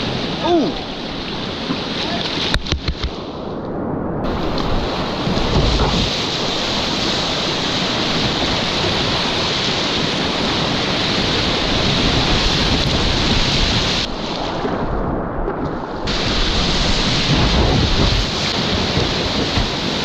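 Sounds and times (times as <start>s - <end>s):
whitewater rushing: 0.0s - 3.1s, 4.3s - 14.7s, 16.0s - 20.0s.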